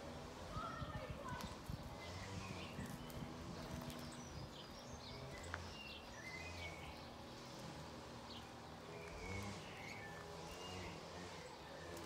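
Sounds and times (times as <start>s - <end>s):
garden birds chirping: 0.0s - 12.0s.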